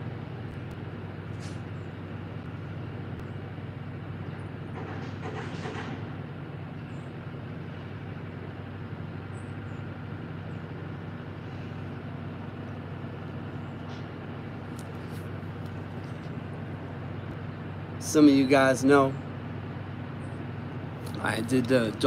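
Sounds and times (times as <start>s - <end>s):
urban mechanical hum: 0.0s - 22.0s.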